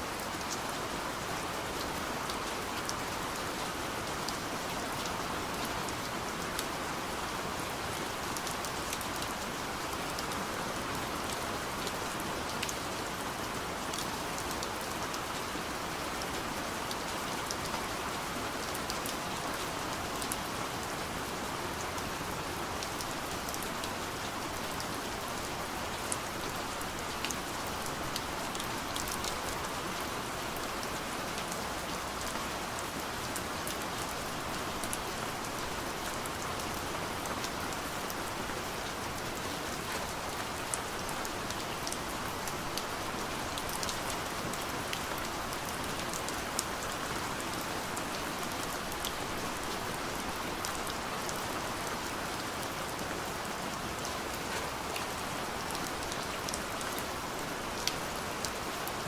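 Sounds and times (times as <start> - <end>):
rain pattering on a window: 0.0 - 59.0.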